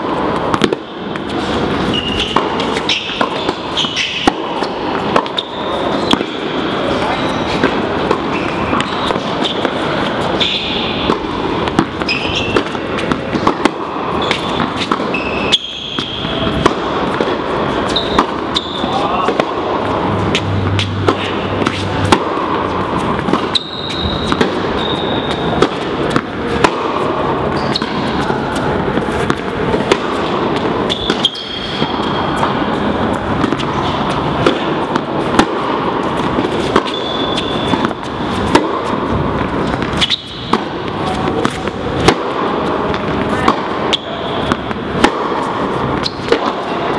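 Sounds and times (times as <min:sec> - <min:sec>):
tennis ball bounces: 0:00.0 - 0:46.9
tennis racket strikes: 0:00.0 - 0:46.9.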